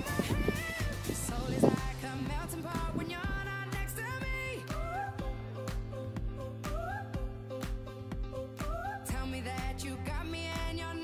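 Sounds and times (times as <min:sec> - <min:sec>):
pop song background music: 0:00.0 - 0:11.0.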